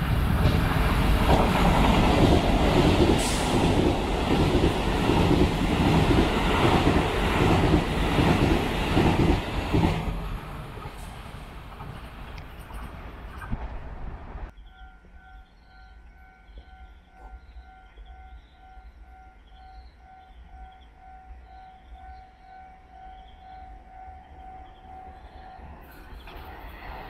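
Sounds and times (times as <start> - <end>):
distant train approaching: 0.0 - 27.0
train rumbling past: 0.0 - 27.0.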